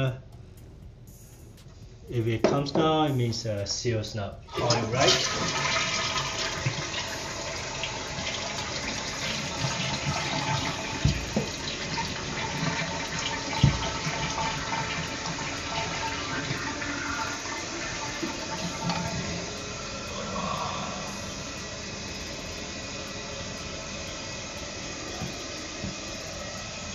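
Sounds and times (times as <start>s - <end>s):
toilet flushing and refilling: 4.5s - 26.9s.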